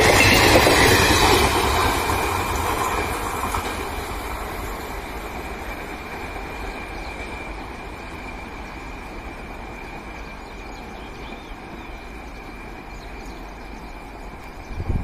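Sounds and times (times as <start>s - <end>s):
distant train rumbling on rails: 0.0s - 15.0s.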